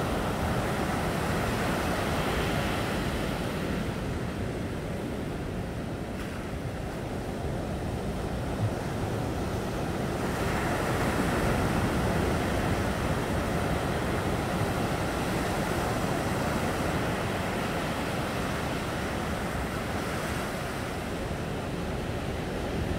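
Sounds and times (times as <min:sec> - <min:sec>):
ocean surf breaking on beach: 0:00.0 - 0:22.9.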